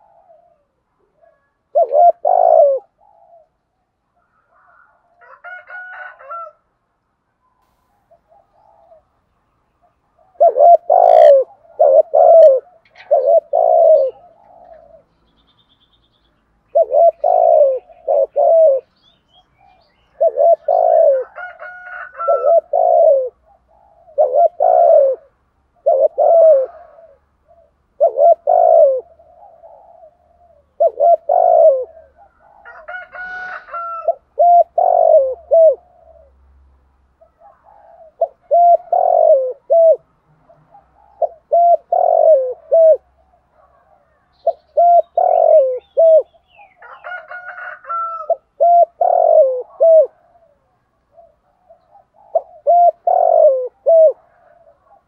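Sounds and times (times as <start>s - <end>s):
dove cooing: 0.0s - 6.6s, 8.0s - 9.2s, 9.8s - 15.2s, 16.6s - 36.4s, 37.1s - 55.0s
higher bird calls: 7.7s - 36.4s, 37.2s - 55.0s.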